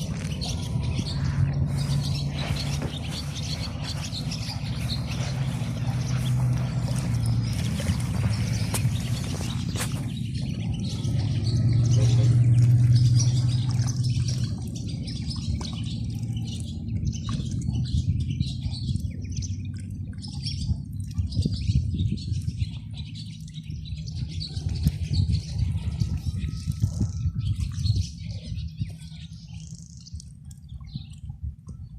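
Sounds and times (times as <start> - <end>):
ducklings peeping: 0.0 - 31.9
low steady rumble: 0.0 - 31.9.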